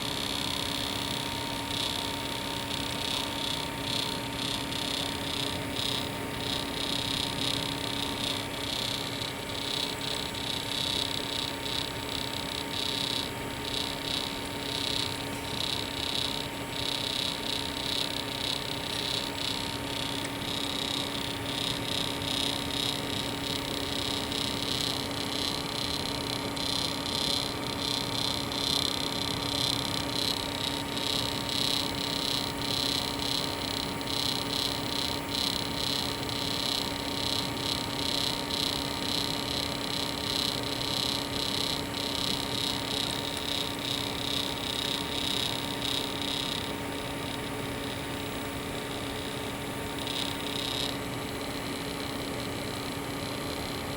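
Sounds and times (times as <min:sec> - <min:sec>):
buzzing whine: 0:00.0 - 0:53.9
computer electrical hum: 0:00.0 - 0:53.9.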